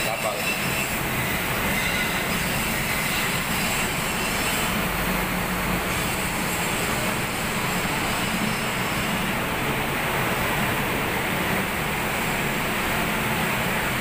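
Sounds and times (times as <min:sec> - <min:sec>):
shipyard machinery drone: 0:00.0 - 0:14.0.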